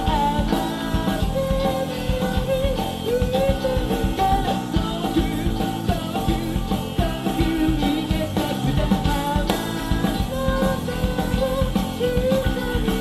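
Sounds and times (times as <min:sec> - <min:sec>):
bass guitar: 0:00.0 - 0:13.0
drums: 0:00.0 - 0:13.0
electric guitars: 0:00.0 - 0:13.0
lead singer singing: 0:00.0 - 0:13.0.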